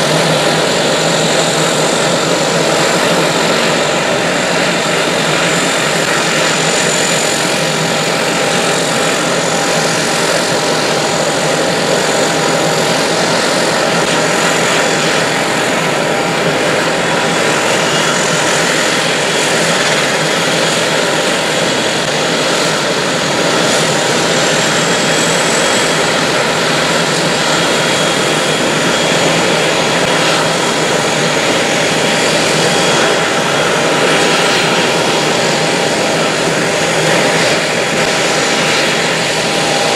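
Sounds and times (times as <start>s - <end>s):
turboprop engines taxiing: 0.0s - 39.9s.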